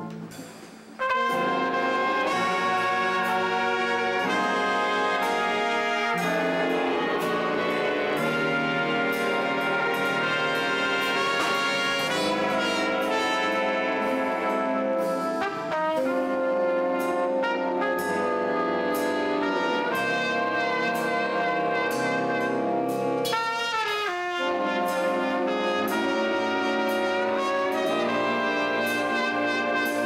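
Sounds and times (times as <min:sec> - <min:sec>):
jazz big band playing: 0:00.0 - 0:30.0
trumpet: 0:01.0 - 0:30.0.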